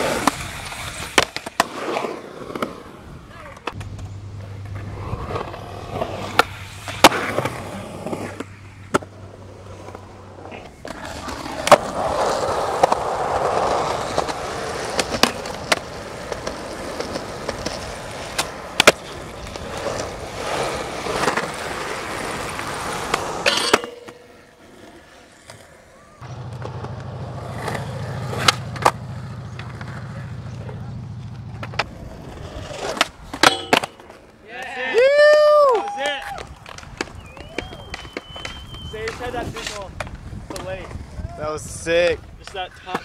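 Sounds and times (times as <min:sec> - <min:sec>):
skateboard popping and landing: 0:00.0 - 0:34.4, 0:36.3 - 0:41.1
skateboard wheels rolling on concrete: 0:00.0 - 0:43.0.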